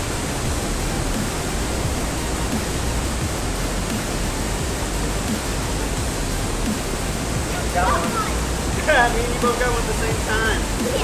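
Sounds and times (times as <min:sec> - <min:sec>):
flowing creek water: 0:00.0 - 0:11.0.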